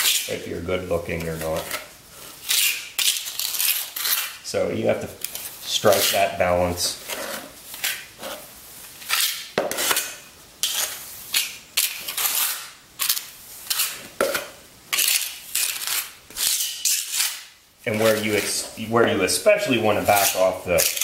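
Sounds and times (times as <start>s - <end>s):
trowel scraping mortar on concrete: 1.1s - 4.4s, 5.2s - 21.0s.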